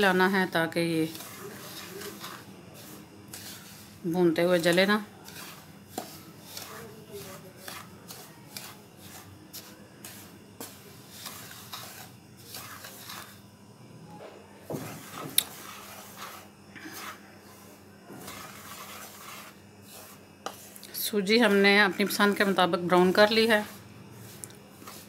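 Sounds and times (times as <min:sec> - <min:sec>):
spatula scraping metal pan: 0:00.8 - 0:13.4, 0:14.7 - 0:25.0.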